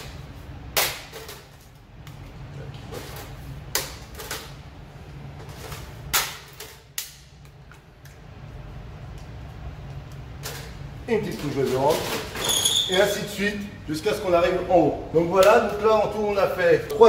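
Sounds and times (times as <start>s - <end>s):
steady low background hum: 0.0s - 17.0s.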